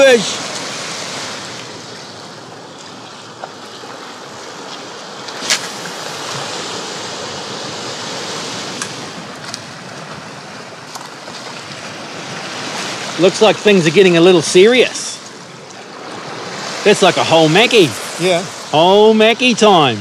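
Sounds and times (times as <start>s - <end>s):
sea surf on rocks: 0.0s - 20.0s.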